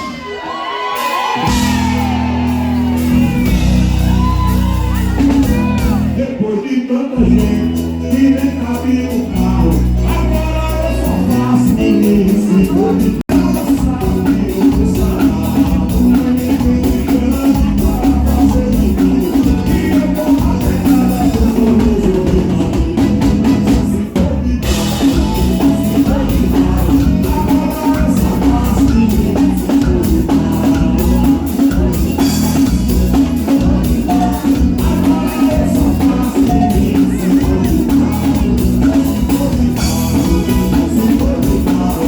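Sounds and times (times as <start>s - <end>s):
live band playing: 0.0s - 42.0s
person singing: 0.0s - 42.0s
steady drum beat: 1.0s - 6.2s, 7.4s - 42.0s.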